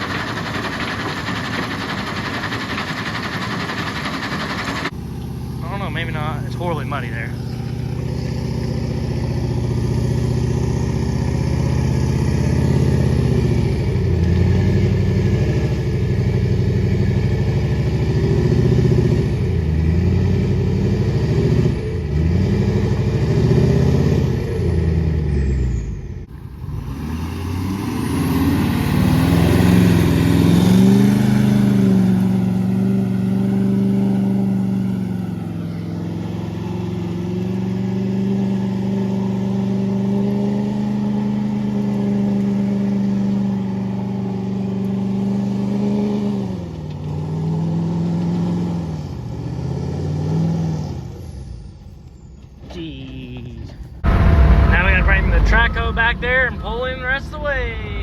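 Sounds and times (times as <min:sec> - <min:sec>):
large vehicle engine revving: 0:00.0 - 0:51.1, 0:53.7 - 0:58.0.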